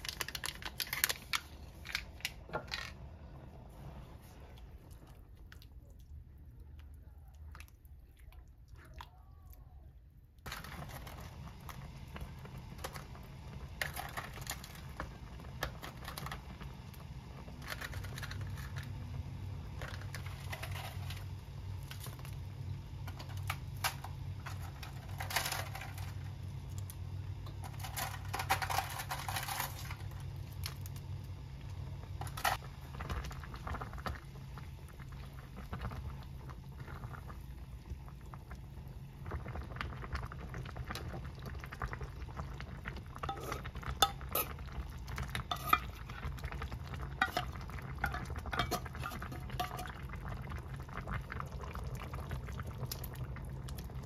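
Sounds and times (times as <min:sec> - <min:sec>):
steady low hum: 0:00.0 - 0:08.7, 0:09.4 - 0:54.0.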